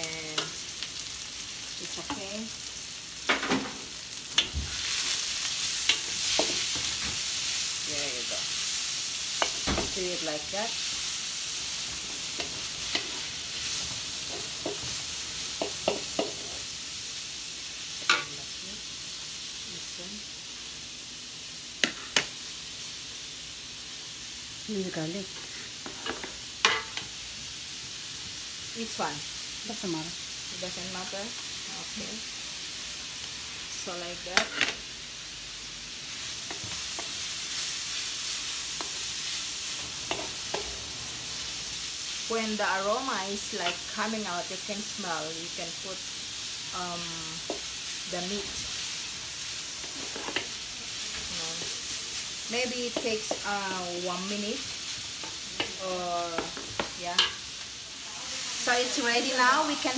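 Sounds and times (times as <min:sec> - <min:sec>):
onions sizzling in oil: 0:00.0 - 0:59.9.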